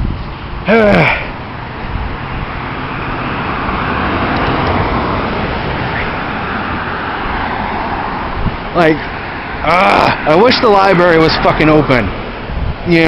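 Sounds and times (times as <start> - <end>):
passing cars rushing: 0.0 - 13.0.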